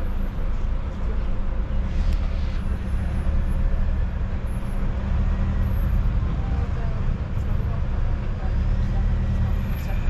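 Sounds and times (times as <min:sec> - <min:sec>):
road noise: 0:00.0 - 0:10.0
road train engine rumble: 0:00.0 - 0:10.0.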